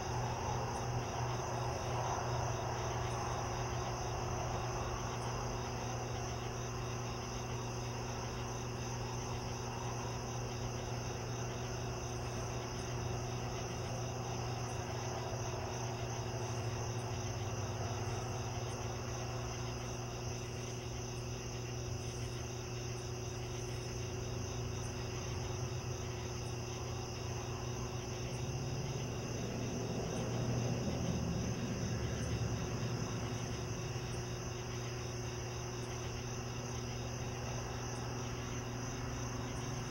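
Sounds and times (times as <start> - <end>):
low steady hum: 0.0 - 39.9
night insects chirping: 0.0 - 39.9.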